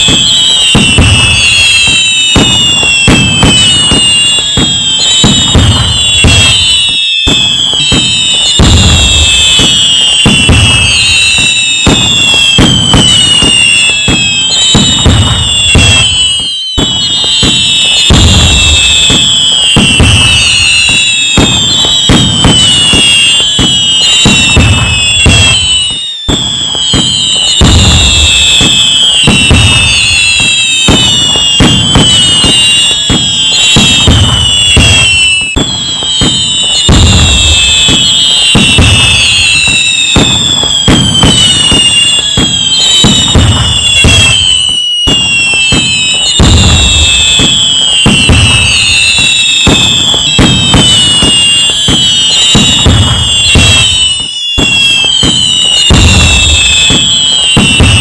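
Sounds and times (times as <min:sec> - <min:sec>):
fireworks bangs and booms: 0:00.0 - 0:58.0
whistling firework shells: 0:00.0 - 0:58.0.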